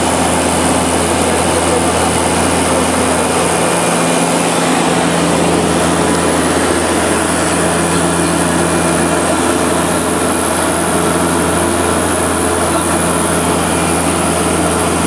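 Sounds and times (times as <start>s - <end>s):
propeller engines droning: 0.0s - 15.0s.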